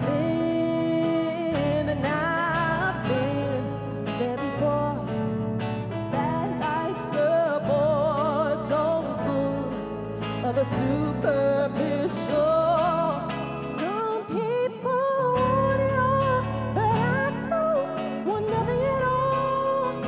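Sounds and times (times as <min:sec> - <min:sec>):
person singing with vibrato: 0:00.0 - 0:20.0.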